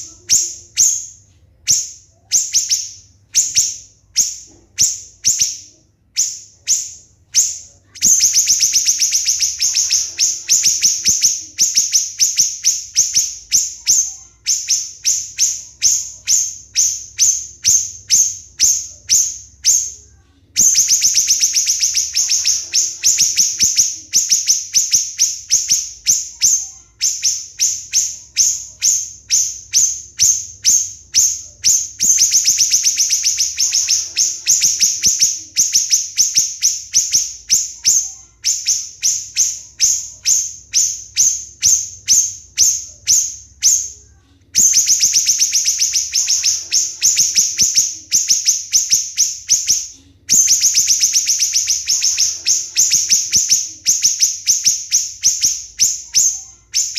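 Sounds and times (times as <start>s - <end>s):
bird singing shrill rapid notes: 0.0s - 20.0s, 20.6s - 44.0s, 44.6s - 56.9s.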